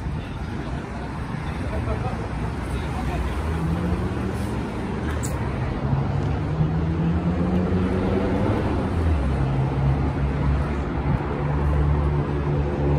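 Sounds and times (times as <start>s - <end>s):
car engines passing: 0.0s - 12.9s.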